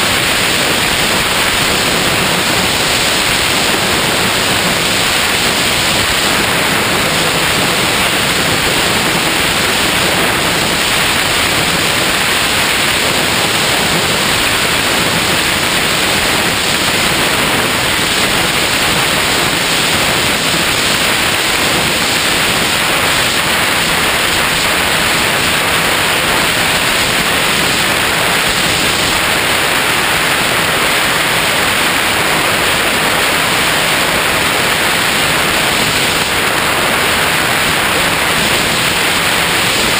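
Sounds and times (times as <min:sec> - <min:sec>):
air rushing over camera: 0:00.0 - 0:39.9.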